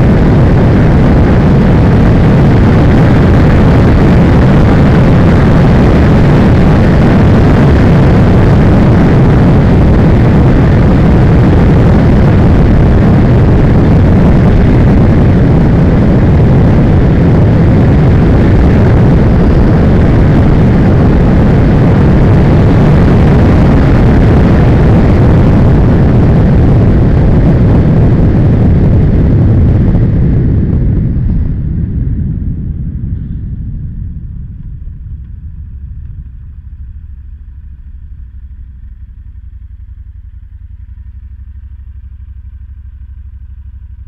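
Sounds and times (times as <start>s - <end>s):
wind buffeting microphone: 0.0s - 41.7s
road rumble: 0.0s - 44.0s.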